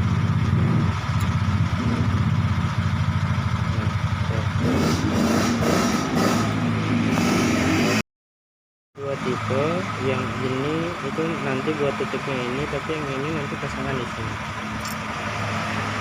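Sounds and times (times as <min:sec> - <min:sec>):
engine idling: 0:00.0 - 0:06.6, 0:09.0 - 0:16.0.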